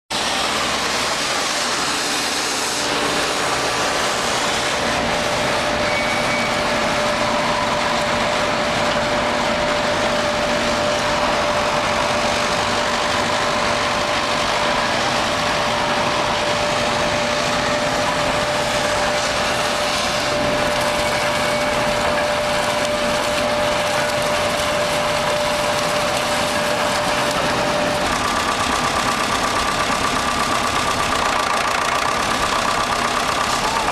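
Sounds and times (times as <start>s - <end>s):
wood chipper running: 0.1s - 33.9s.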